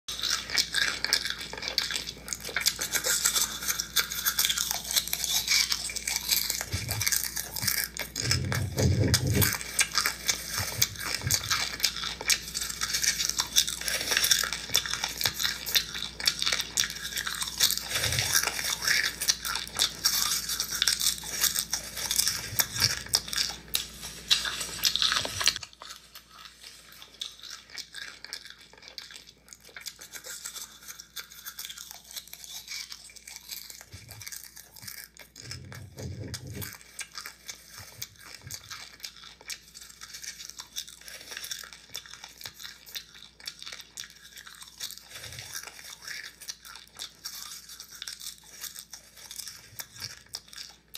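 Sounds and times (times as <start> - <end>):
popcorn crunching being chewed: 0.1 - 50.9.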